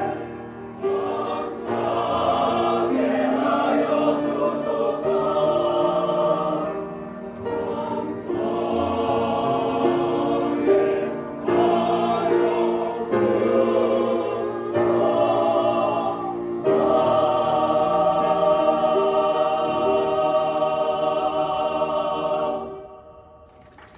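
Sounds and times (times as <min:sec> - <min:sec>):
piano accompaniment: 0:00.0 - 0:23.1
choir singing a hymn: 0:00.0 - 0:23.5.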